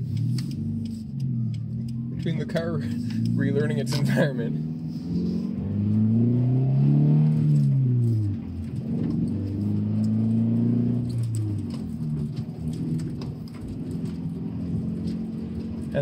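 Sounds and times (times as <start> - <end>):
car engine revving in cabin: 0.0 - 16.0.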